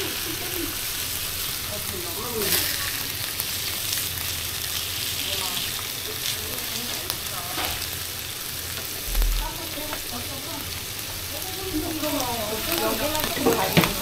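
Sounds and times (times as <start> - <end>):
squid sizzling on a griddle: 0.0 - 14.0.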